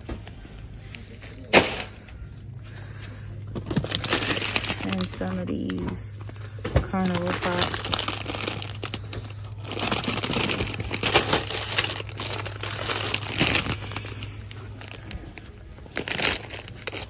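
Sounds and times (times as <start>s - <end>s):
plastic bag crinkling: 2.8s - 17.0s.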